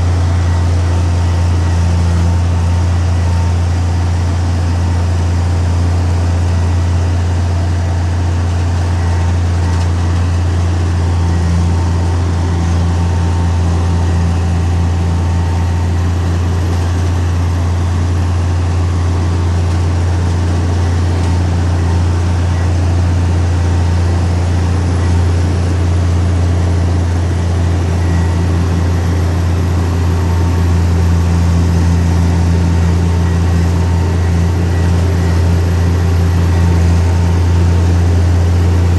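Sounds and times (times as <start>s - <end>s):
heavy diesel engine droning: 0.0s - 38.9s.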